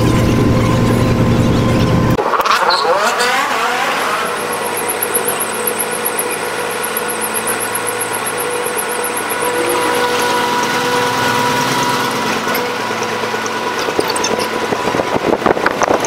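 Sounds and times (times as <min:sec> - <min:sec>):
boat engine running sped up: 0:02.9 - 0:16.0.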